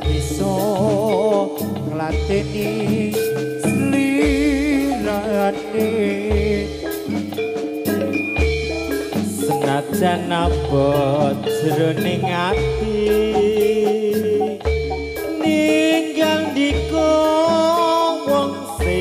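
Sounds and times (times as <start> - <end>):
person singing wavering vocal: 0.0 - 7.2, 9.2 - 19.0
drum: 0.0 - 19.0
ringing metallophone notes: 0.0 - 19.0.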